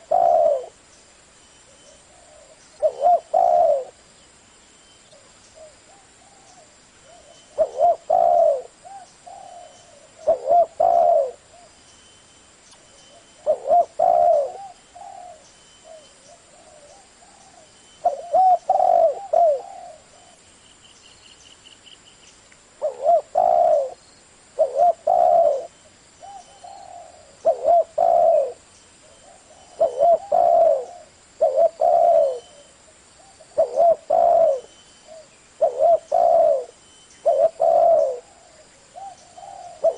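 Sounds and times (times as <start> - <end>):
dove cooing: 0.0 - 0.8, 1.7 - 4.0, 5.2 - 11.8, 13.1 - 20.4, 22.8 - 24.0, 24.6 - 39.9.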